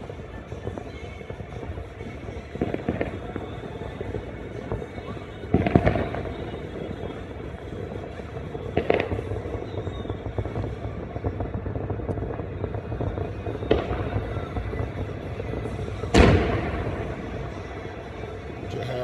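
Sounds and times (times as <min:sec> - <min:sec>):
distant fireworks bangs: 0:00.0 - 0:18.9.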